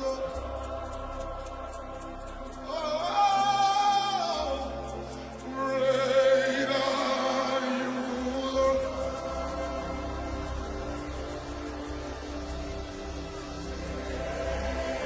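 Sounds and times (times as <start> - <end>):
sustained worship music backing: 0.0 - 15.0.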